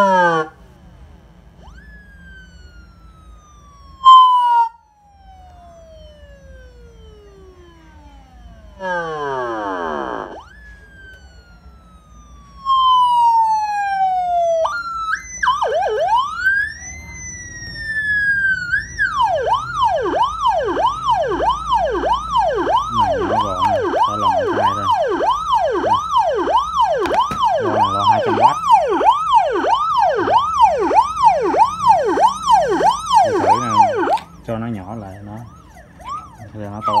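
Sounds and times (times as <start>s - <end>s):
electronic police siren: 0.0s - 0.6s, 1.2s - 37.0s.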